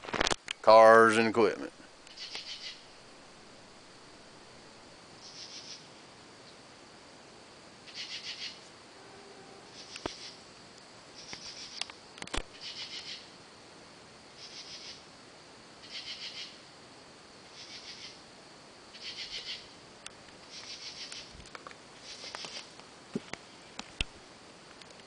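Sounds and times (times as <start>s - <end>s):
insects buzzy pulse bursts: 0.0s - 24.8s
insect high trill: 0.1s - 6.8s, 7.8s - 22.8s.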